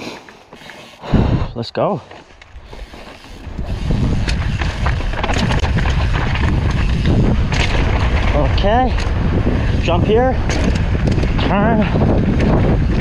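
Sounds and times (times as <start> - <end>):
wind buffeting microphone: 1.0 - 1.6, 2.5 - 13.0
bike rattling over dirt: 1.8 - 13.0.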